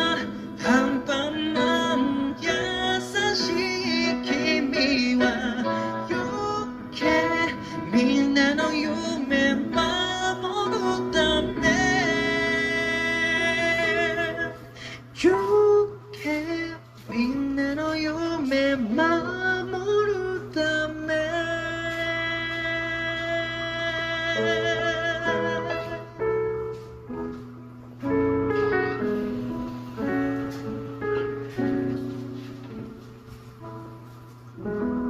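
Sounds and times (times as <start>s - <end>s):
song with singing voice: 0.0s - 35.0s.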